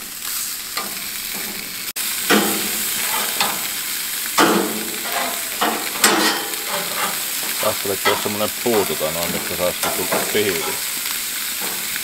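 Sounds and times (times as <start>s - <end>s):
food sizzling on a grill: 0.0s - 12.0s
metal tongs clacking on grate: 0.8s - 1.6s, 2.3s - 12.0s.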